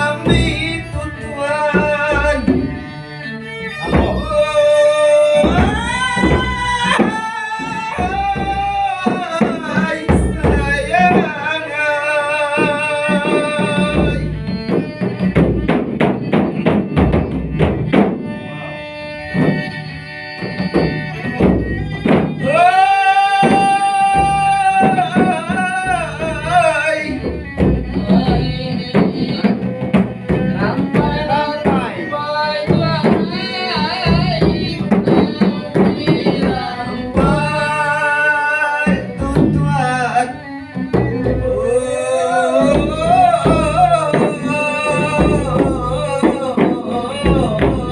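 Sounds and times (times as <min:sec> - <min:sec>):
folk song singing: 0:00.0 - 0:47.9
hand drums beating: 0:00.0 - 0:47.9.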